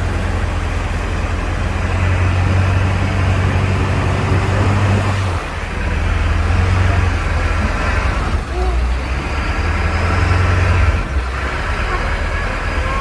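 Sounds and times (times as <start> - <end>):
truck engine droning under load: 0.0 - 13.0.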